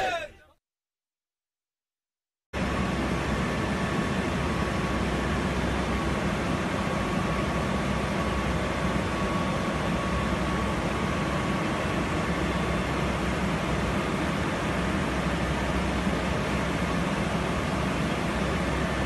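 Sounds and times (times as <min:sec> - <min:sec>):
aircraft engine and air rush: 0:02.6 - 0:19.0.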